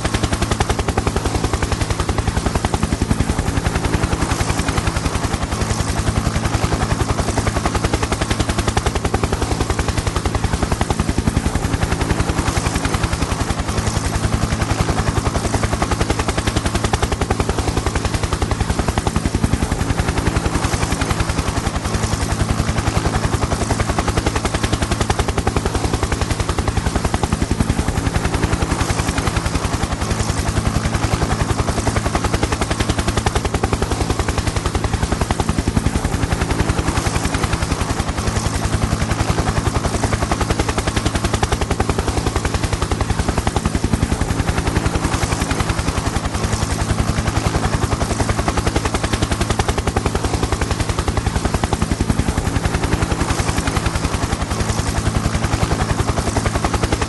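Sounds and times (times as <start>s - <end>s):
helicopter rotor blades chopping: 0.0s - 57.0s.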